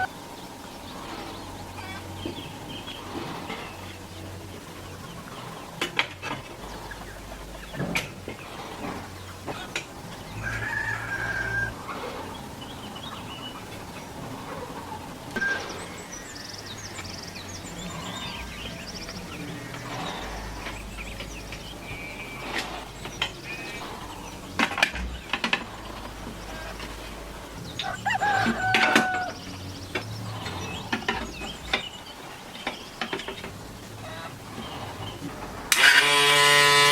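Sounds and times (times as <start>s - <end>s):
chickens clucking: 0.0s - 36.9s
small birds chirping: 0.0s - 36.9s.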